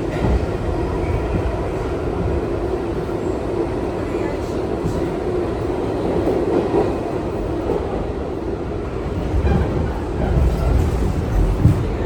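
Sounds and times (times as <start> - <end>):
subway train rumbling on rails: 0.0 - 12.0.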